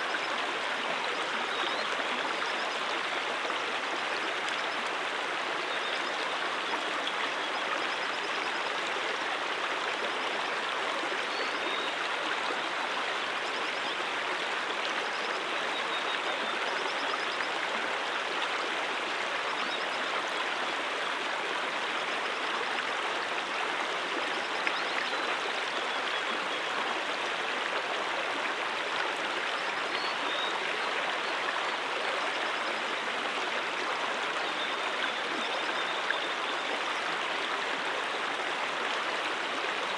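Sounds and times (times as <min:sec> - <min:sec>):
brook water flowing over rocks: 0:00.0 - 0:39.9.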